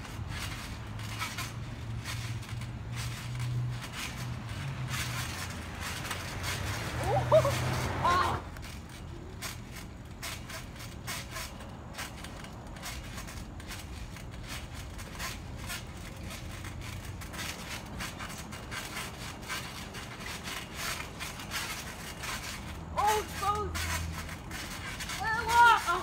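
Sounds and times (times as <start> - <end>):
trampoline springs creaking: 0.0 - 26.0.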